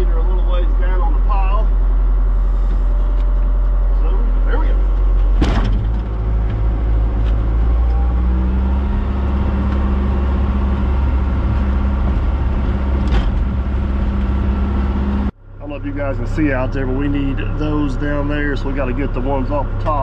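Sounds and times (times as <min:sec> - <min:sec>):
excavator diesel engine: 0:00.0 - 0:20.0.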